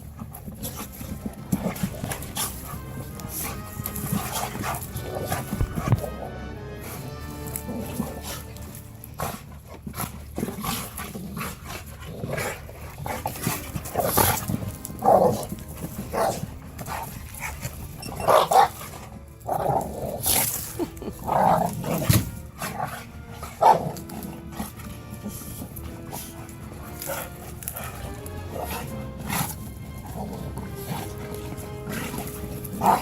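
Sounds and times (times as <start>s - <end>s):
dogs barking while play-fighting: 0.0s - 33.0s.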